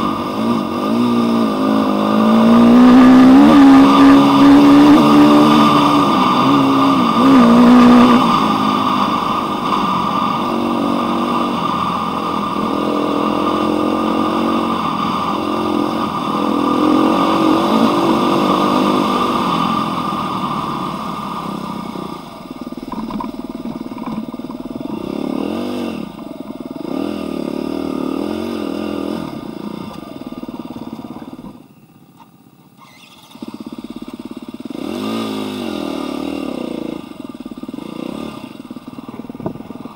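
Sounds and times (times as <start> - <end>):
dirt bike engine revving: 0.0 - 31.6, 32.8 - 39.9.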